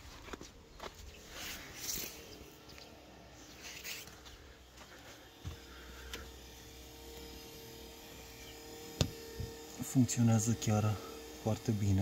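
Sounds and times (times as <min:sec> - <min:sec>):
wiper motor humming: 0:01.8 - 0:12.0.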